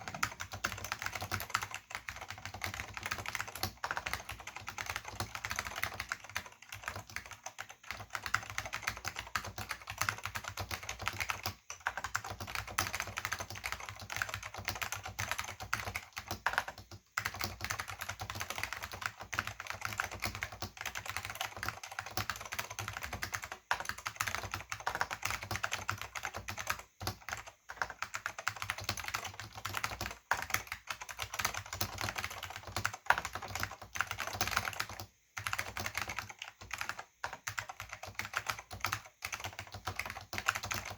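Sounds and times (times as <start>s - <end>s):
fast clicky keyboard typing: 0.0s - 40.9s.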